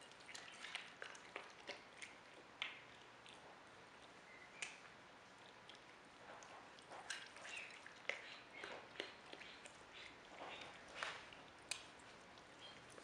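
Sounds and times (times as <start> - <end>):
capybara chewing watermelon: 0.0 - 13.0.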